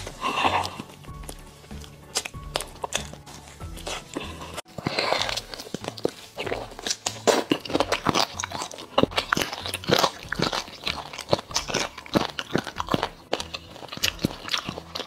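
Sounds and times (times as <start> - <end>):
wet chewing with clicks and smacks: 0.0 - 15.0.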